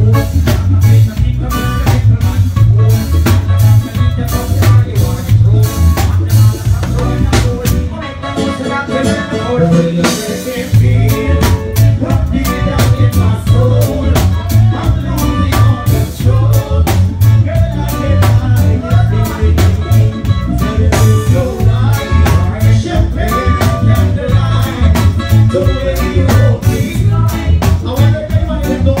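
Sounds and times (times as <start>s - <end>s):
drum kit: 0.0s - 29.0s
heavy bass: 0.0s - 29.0s
person singing: 0.0s - 29.0s.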